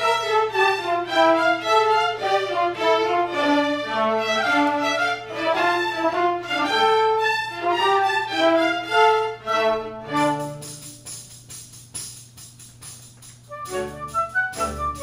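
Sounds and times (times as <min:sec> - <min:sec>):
orchestra playing classical music: 0:00.0 - 0:10.9, 0:13.5 - 0:15.0
violins playing melody: 0:00.0 - 0:11.0, 0:13.5 - 0:15.0.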